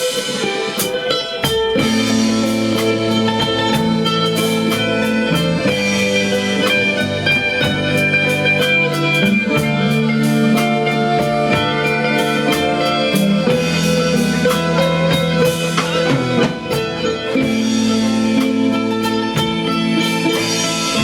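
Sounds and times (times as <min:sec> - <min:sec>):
rock band music: 0:00.0 - 0:21.0.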